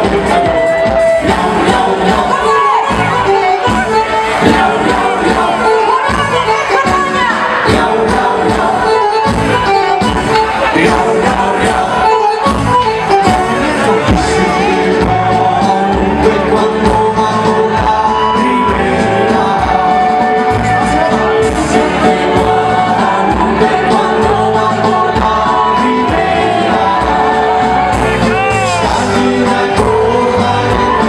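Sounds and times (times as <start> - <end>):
live band playing dance music: 0.0 - 31.0
sung vocals: 0.0 - 31.0.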